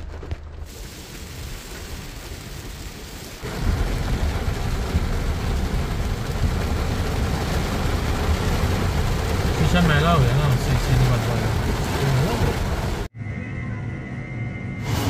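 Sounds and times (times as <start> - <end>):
heavy rain on a car: 0.0 - 13.1.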